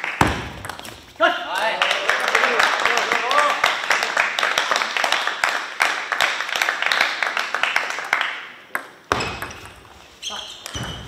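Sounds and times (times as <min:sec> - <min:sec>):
people clapping: 0:00.0 - 0:09.0.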